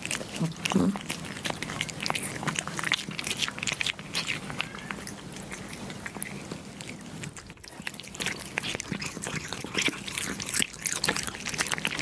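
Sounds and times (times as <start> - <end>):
kittens chewing meat: 0.0 - 12.0.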